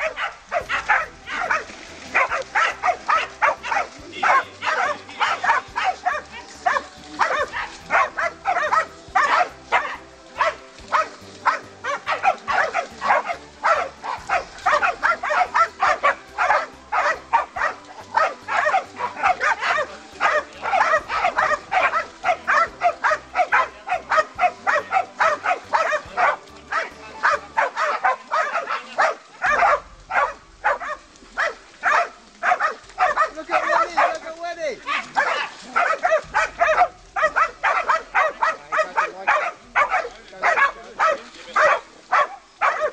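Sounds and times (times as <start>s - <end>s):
dogs barking rapidly: 0.0s - 42.9s.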